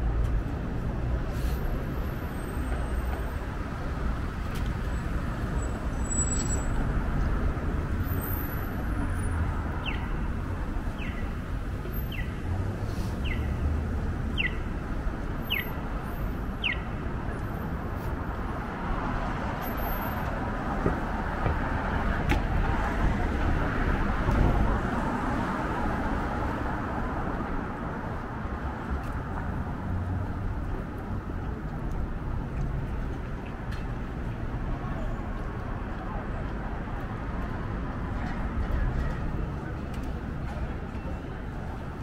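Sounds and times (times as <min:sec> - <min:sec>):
passing cars hum: 0:00.0 - 0:42.0.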